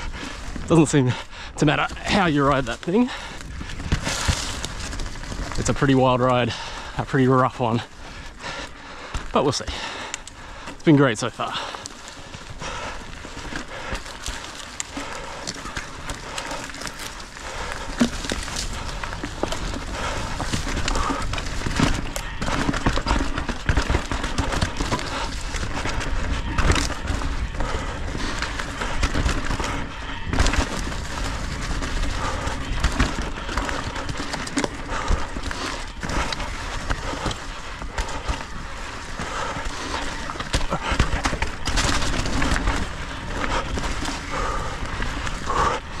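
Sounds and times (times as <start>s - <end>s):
bike clattering and rattling: 0.0s - 46.0s
bike tyres rumbling over rocks: 0.0s - 46.0s.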